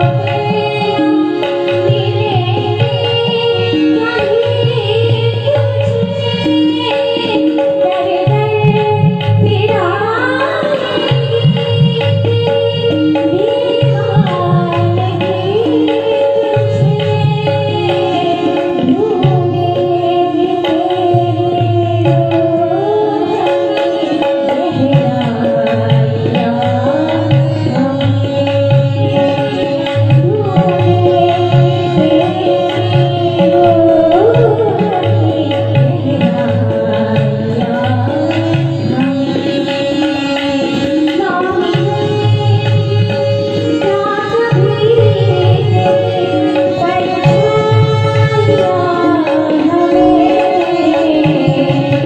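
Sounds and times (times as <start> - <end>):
tabla rhythm: 0.0 - 52.0
woman singing: 0.0 - 52.0.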